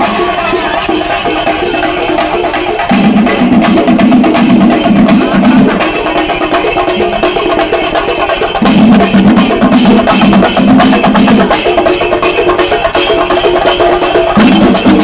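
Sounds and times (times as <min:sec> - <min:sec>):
percussion ensemble drumming: 0:00.0 - 0:15.0.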